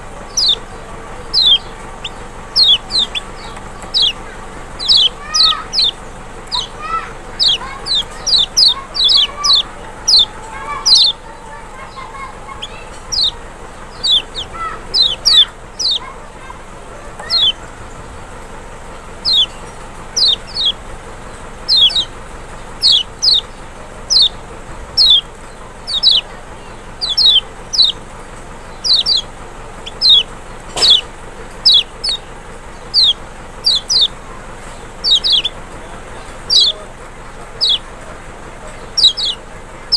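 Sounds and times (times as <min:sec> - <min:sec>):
sharp downward-sliding bird chirps: 0:00.0 - 0:00.7, 0:01.3 - 0:11.2, 0:11.9 - 0:16.5, 0:17.2 - 0:17.6, 0:19.2 - 0:20.8, 0:21.6 - 0:28.0, 0:28.6 - 0:35.6, 0:36.4 - 0:36.8, 0:37.5 - 0:37.9, 0:38.8 - 0:39.9
fainter lower bird calls: 0:00.0 - 0:39.9.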